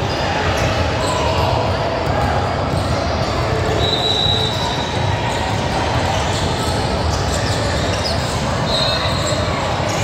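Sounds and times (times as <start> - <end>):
gym noise and voices: 0.0 - 10.0.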